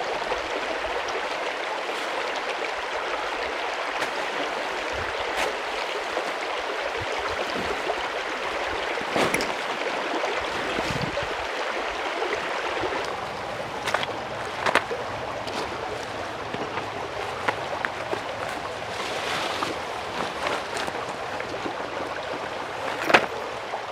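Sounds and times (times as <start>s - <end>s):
stream rushing: 0.0s - 23.9s.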